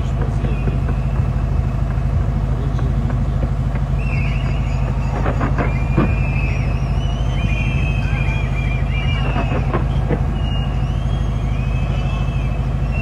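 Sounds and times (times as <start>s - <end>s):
crowd noise: 0.0s - 13.0s
fireworks bursting: 0.0s - 13.0s
fireworks whistling: 0.0s - 13.0s.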